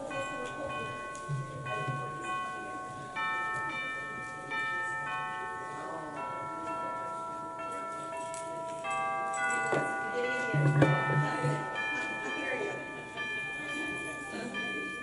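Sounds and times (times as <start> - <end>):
bell-like keyboard notes: 0.0 - 15.0.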